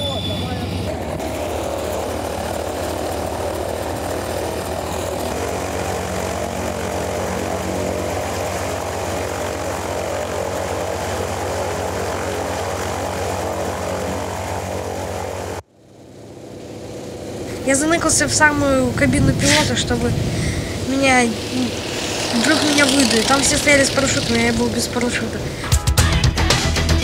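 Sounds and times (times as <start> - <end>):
radial aircraft engine running: 0.0 - 26.1.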